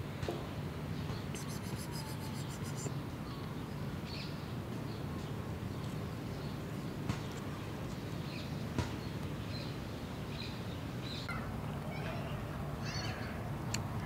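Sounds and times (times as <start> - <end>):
small birds chirping: 0.9 - 14.0.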